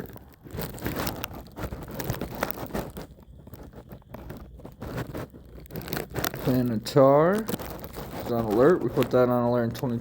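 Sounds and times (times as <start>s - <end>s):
small clicks and crackles: 0.0s - 10.0s.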